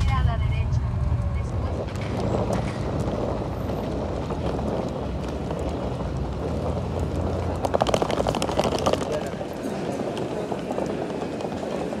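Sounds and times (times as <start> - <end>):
traffic noise: 0.0 - 12.0
wind buffeting microphone: 0.0 - 12.0
rattling clatter: 1.7 - 11.9.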